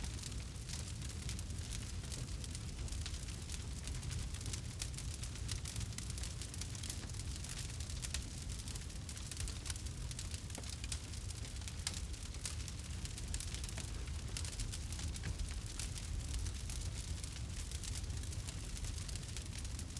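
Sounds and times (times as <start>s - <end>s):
low rumble of flames: 0.0s - 19.9s
wood crackling and popping: 0.0s - 19.9s.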